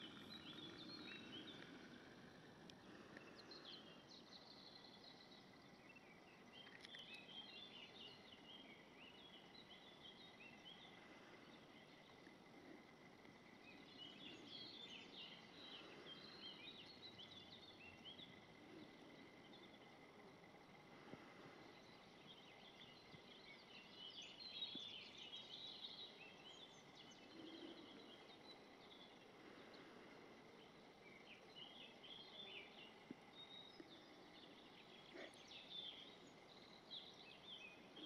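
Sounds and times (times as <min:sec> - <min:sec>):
low background hiss: 0:00.0 - 0:38.0.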